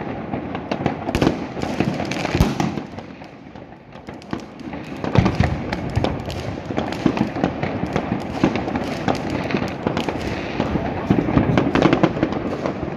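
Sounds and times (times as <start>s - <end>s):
fireworks bangs and crackles: 0.0s - 12.9s.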